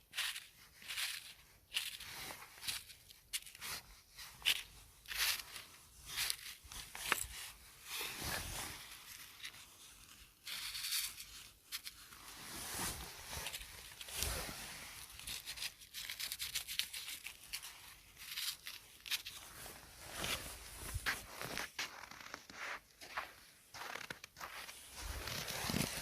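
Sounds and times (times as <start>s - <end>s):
rustling crackling and tearing: 0.0s - 22.8s, 23.7s - 26.0s.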